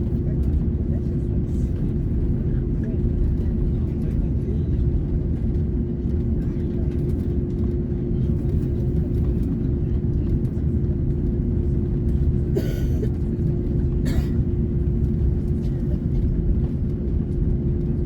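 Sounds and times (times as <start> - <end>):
jet engines inside cabin: 0.0 - 18.0.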